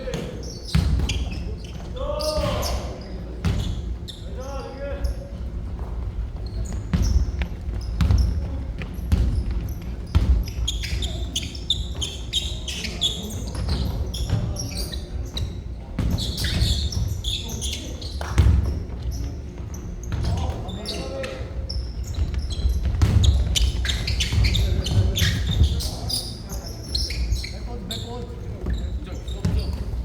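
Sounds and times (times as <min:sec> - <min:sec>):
players' voices: 0:00.0 - 0:30.0
sneakers squeaking on hardwood: 0:00.0 - 0:30.0
basketball bouncing on gym floor: 0:00.1 - 0:04.1, 0:05.7 - 0:26.5, 0:28.6 - 0:30.0.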